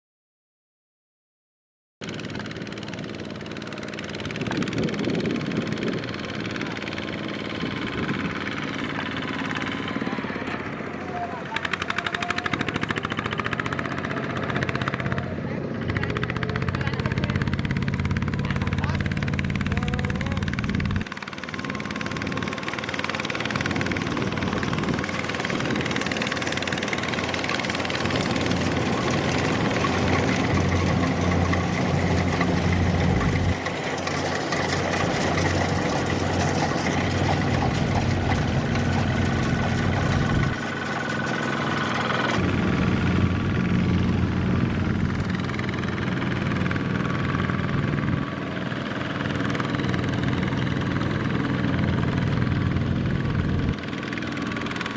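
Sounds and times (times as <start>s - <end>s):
diesel tractor engine chugging: 2.0s - 54.9s.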